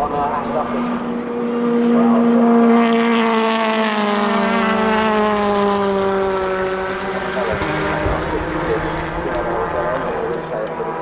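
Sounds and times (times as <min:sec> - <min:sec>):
race car engine passing: 0:00.0 - 0:11.0.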